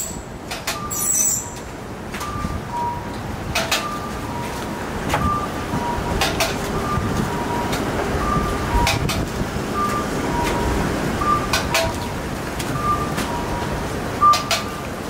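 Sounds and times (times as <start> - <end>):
steady background rumble: 0.0 - 15.0.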